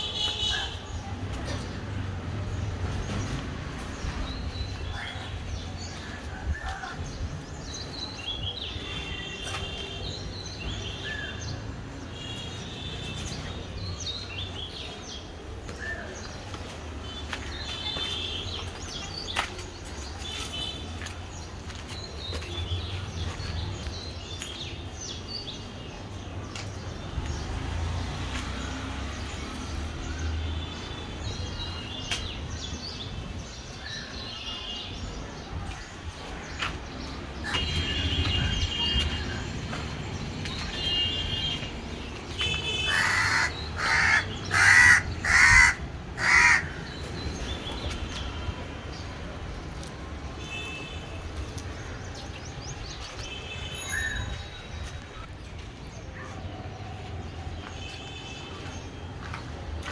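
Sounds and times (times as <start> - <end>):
birds chirping: 2.5 - 59.4.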